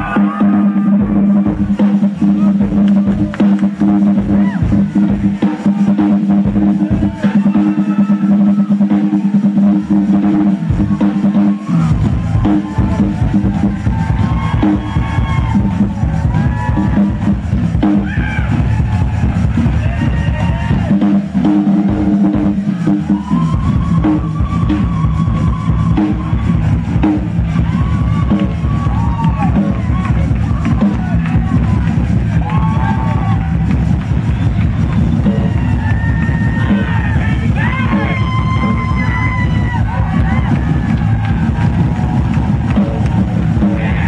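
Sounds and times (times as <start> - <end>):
bass drum strokes: 0.0 - 44.0
drum solo on toms and snare: 0.0 - 44.0.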